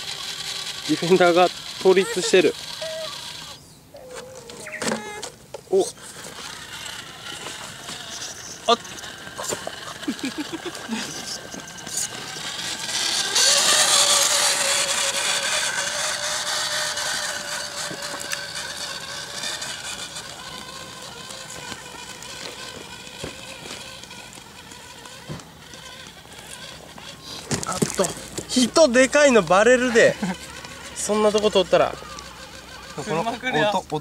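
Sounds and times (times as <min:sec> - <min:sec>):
electric motor and gearbox whine: 0:00.0 - 0:34.0.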